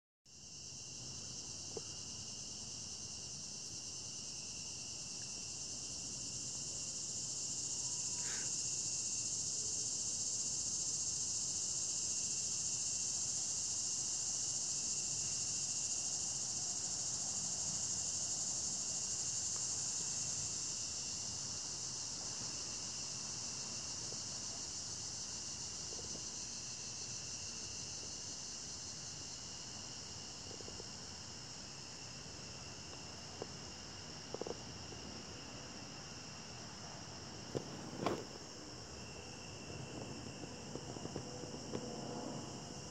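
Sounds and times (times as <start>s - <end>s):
low continuous insect tone: 0.3s - 42.9s.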